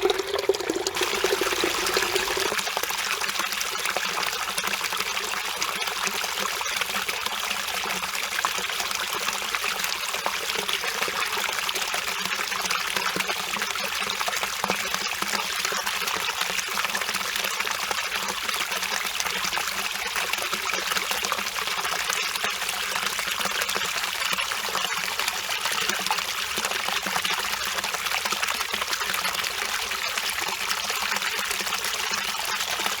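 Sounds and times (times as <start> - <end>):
stream flowing over rocks: 0.0 - 33.0.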